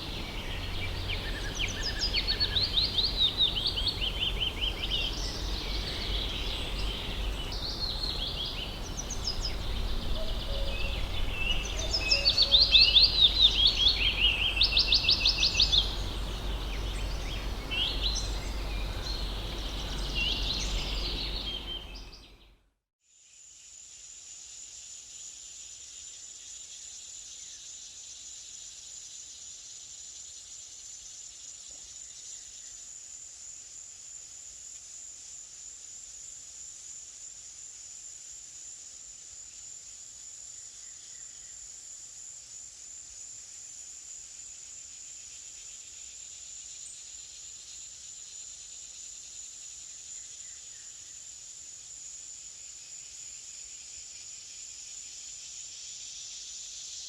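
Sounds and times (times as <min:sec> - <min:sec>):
insect chorus drone: 0:00.0 - 0:22.5, 0:23.2 - 0:57.0.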